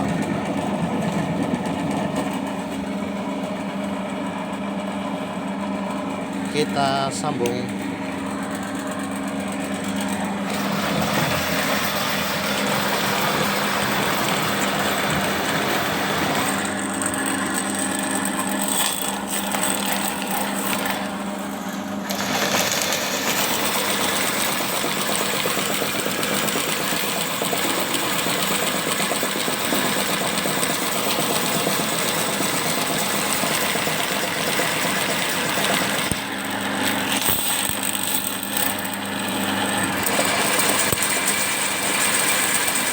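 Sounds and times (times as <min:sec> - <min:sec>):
drain cleaning machine motor hum: 0:00.0 - 0:42.9
cable grinding in drain pipe: 0:07.7 - 0:42.9.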